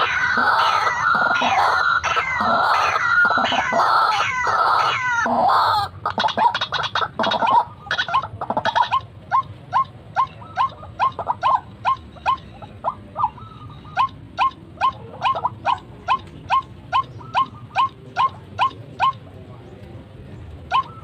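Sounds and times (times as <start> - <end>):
waterhen calling: 0.0 - 19.8, 20.6 - 21.0.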